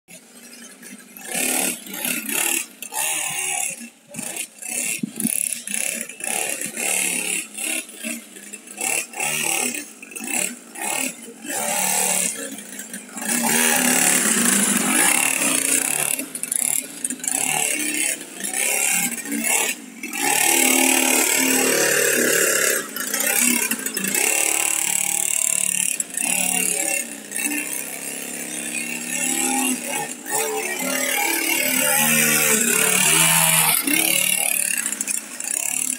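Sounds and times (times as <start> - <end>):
small dirt bike engine revving: 0.1 - 35.9.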